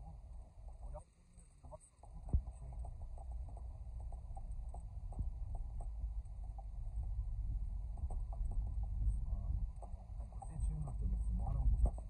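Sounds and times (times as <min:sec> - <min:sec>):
car interior rumble on rough track: 0:00.0 - 0:12.0
irregular knocks and clicks: 0:02.0 - 0:12.0.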